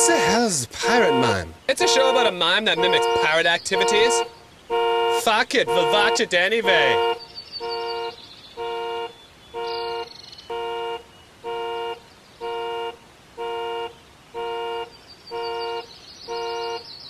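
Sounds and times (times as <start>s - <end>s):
car alarm horn honks: 0.0s - 16.9s.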